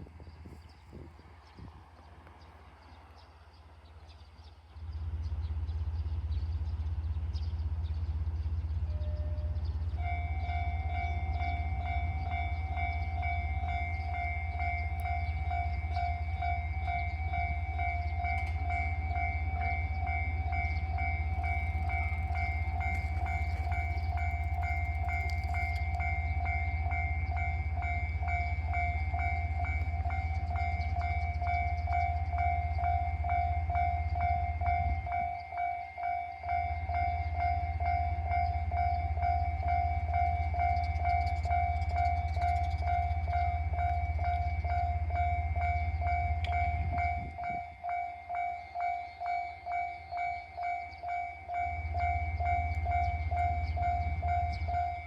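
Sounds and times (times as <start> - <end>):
level crossing warning bell: 8.2 - 55.0.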